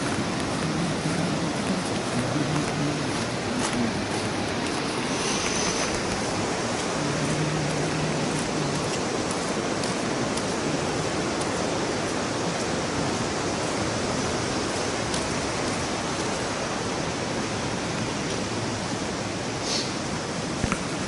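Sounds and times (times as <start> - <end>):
waterfall pouring over rocks: 0.0 - 21.0.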